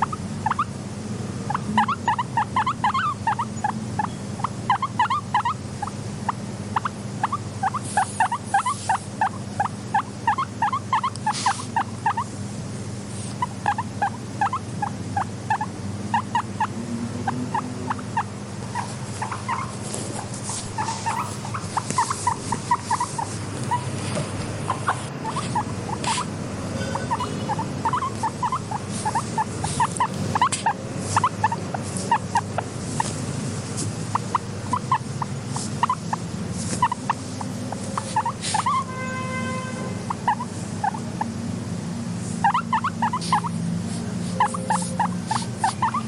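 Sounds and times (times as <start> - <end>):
guinea pig squeaking: 0.0 - 0.8, 1.4 - 12.4, 13.1 - 41.4, 42.2 - 46.0.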